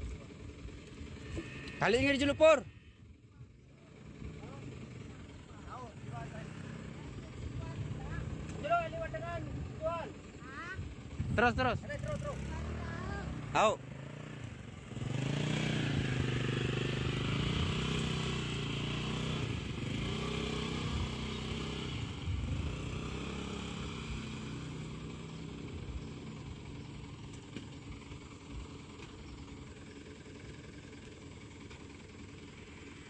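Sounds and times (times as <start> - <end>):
diesel truck engine revving: 3.9 - 10.1, 11.3 - 33.0.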